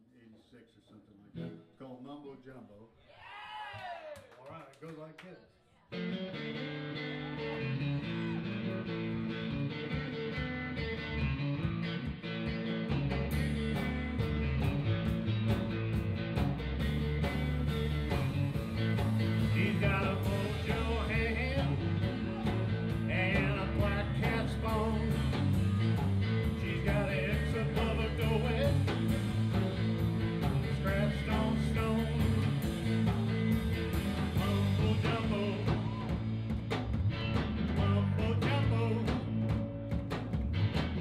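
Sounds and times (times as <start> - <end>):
electric guitar: 5.8 - 41.0
rock band playing: 5.9 - 41.0.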